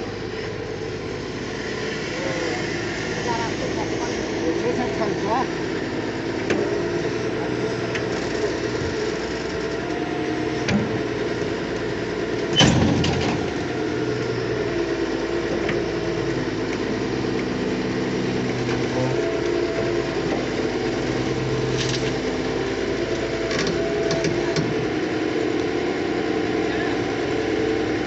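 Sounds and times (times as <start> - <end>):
diesel engine running under load: 0.0 - 28.0.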